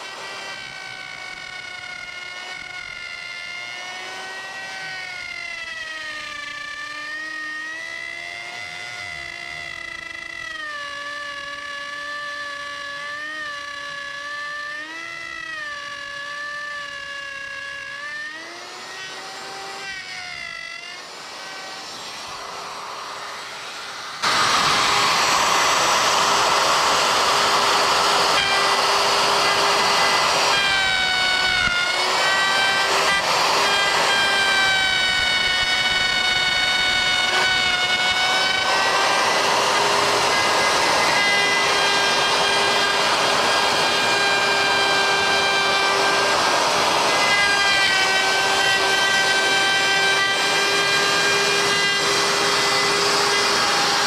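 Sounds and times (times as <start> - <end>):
rough cutting noise: 0.0 - 54.0
router motor whine: 0.0 - 54.0.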